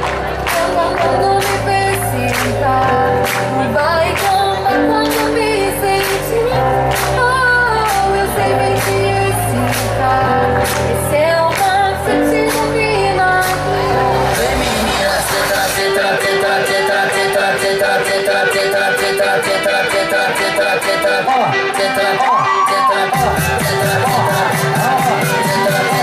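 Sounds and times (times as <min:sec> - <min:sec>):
dance song over loudspeakers: 0:00.0 - 0:26.0
woman singing: 0:00.0 - 0:26.0.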